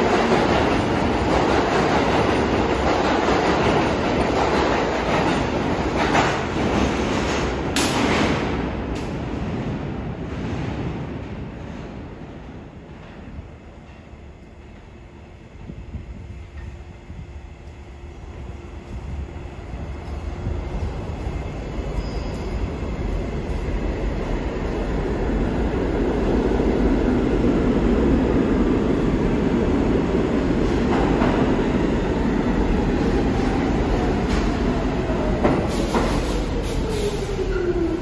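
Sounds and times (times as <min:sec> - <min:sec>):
subway train rumble and clatter: 0:00.0 - 0:38.0.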